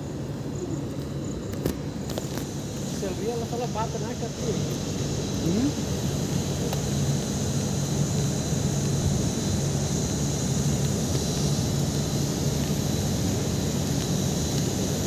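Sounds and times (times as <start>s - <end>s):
vehicle engine hum and rumble: 0.0s - 15.0s.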